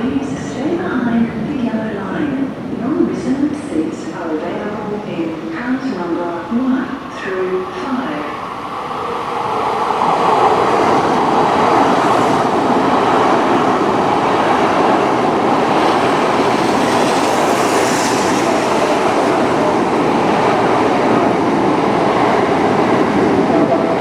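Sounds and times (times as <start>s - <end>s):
train wheels and air rushing: 0.0s - 24.0s.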